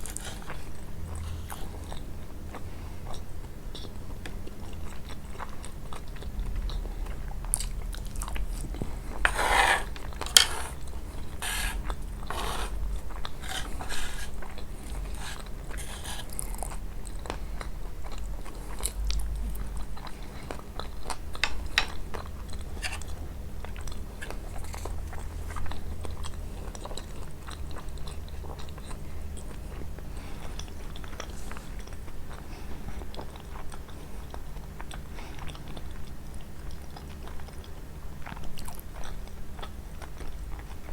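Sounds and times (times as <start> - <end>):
crunchy pastry chewing: 0.0 - 40.9.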